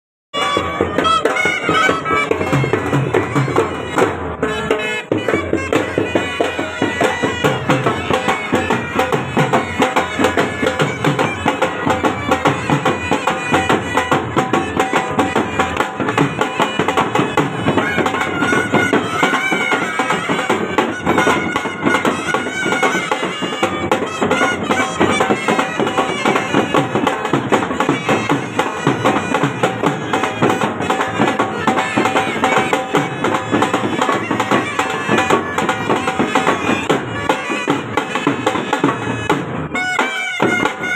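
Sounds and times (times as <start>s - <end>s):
droning wind instrument melody: 0.4s - 40.9s
fast drum beat: 0.4s - 40.9s.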